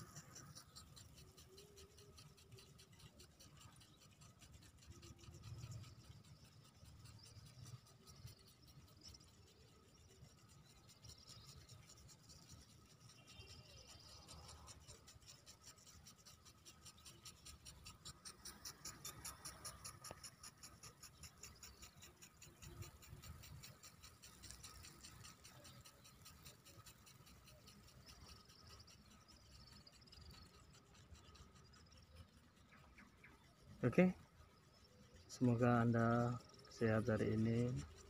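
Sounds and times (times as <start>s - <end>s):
impact sprinkler ticking: 0.0s - 38.0s.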